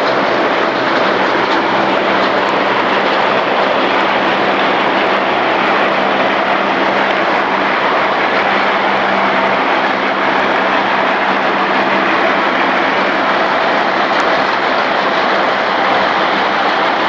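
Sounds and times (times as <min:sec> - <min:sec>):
industrial machinery running: 0:00.0 - 0:17.0.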